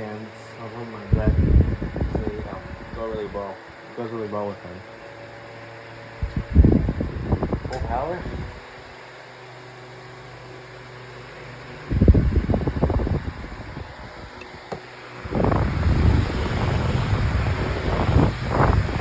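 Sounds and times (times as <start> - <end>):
fan air buffeting microphone: 0.0 - 19.0
table fan motor hum: 0.0 - 19.0.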